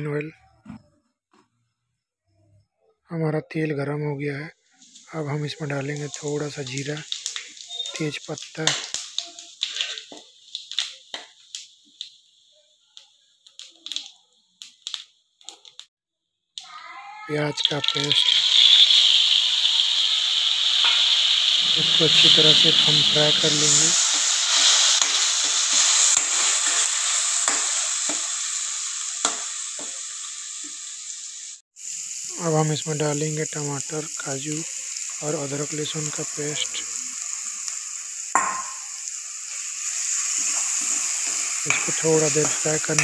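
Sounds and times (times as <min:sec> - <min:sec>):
spices sizzling in hot oil: 0:04.7 - 0:15.9, 0:16.6 - 0:43.0.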